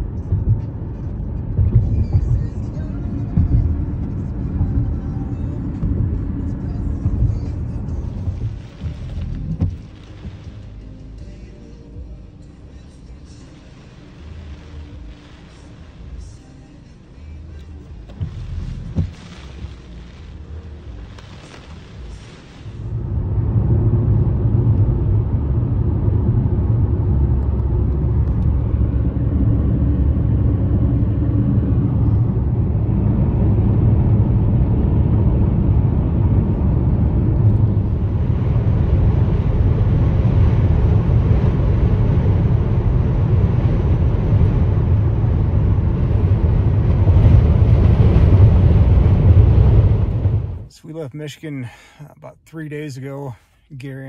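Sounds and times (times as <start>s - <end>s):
car tyres and engine rumble: 0.0s - 54.0s.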